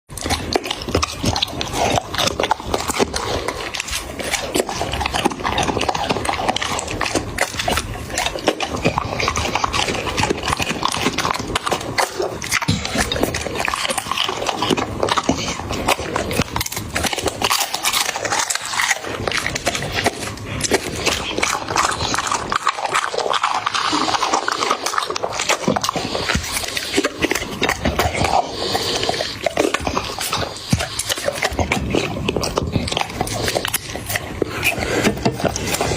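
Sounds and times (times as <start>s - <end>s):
dog chewing and smacking: 0.1s - 35.9s.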